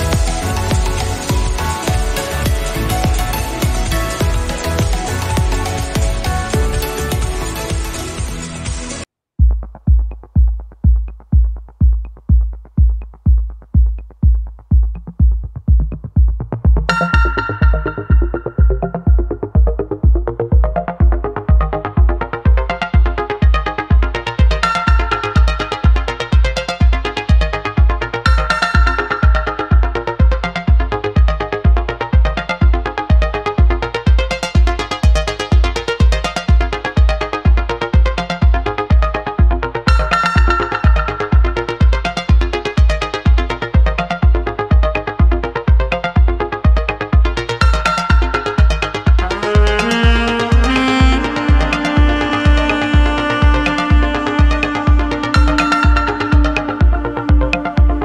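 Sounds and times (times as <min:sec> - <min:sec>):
quick synthesizer notes: 0:00.0 - 0:09.0, 0:14.8 - 0:58.0
electronic dance music: 0:00.0 - 0:58.0
kick drum thumps: 0:09.4 - 0:58.0.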